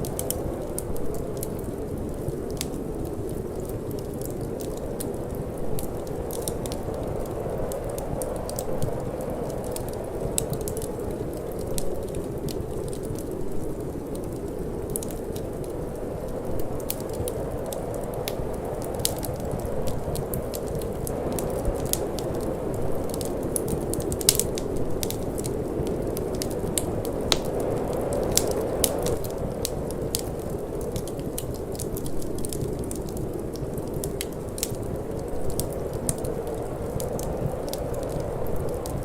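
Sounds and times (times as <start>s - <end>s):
rushing wind: 0.0s - 39.0s
wood fire crackling: 0.0s - 39.0s.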